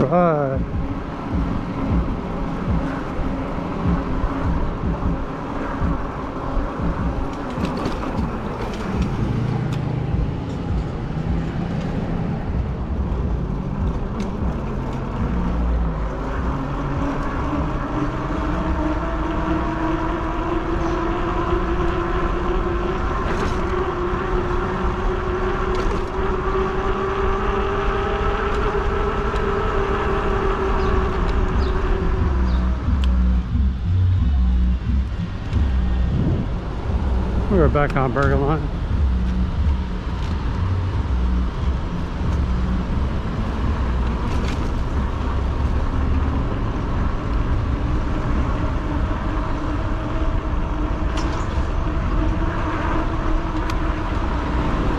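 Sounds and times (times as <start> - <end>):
e-bike motor whine: 0.0 - 54.9
steady road noise: 0.0 - 54.9
wind buffeting microphone: 0.6 - 54.9.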